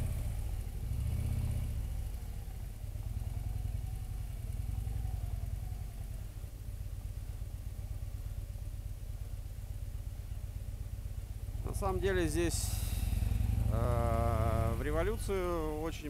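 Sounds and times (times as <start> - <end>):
motorcycle engine low rumble: 0.0 - 16.0.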